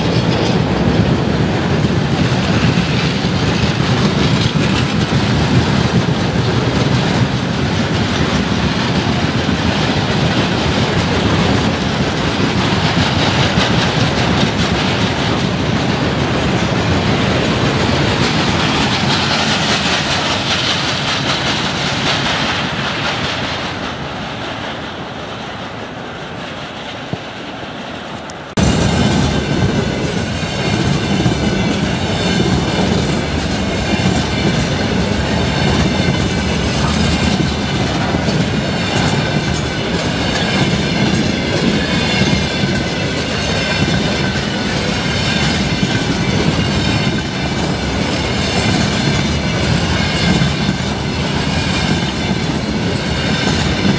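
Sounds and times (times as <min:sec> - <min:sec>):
container train passing fast: 0:00.0 - 0:53.9
freight train wagons rumbling: 0:00.0 - 0:53.9.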